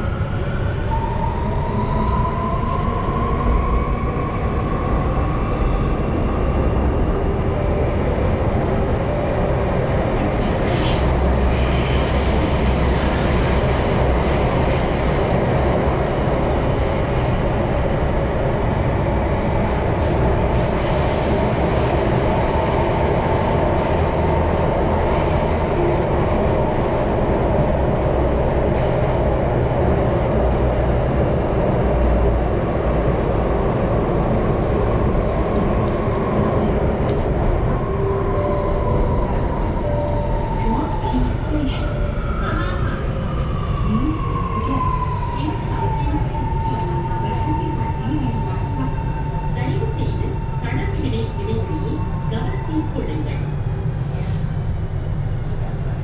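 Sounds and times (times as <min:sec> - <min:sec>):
wheels rumbling on rails: 0:00.0 - 0:56.0.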